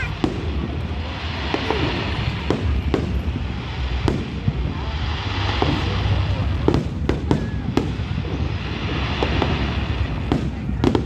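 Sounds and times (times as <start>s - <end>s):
fireworks rumble and crackle: 0.0s - 11.0s
sharp firework bangs: 0.0s - 11.0s.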